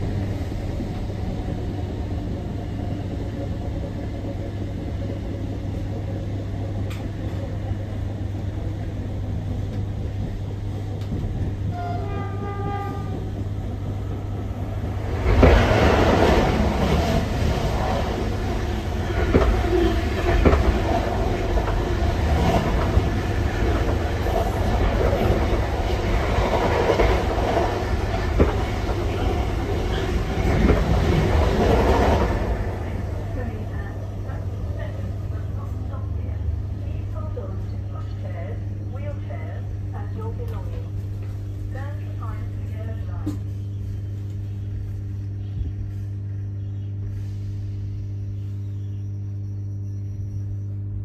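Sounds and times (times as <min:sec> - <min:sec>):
train interior hum: 0:00.0 - 0:51.0
train rumble with wheel clatter: 0:00.0 - 0:51.0.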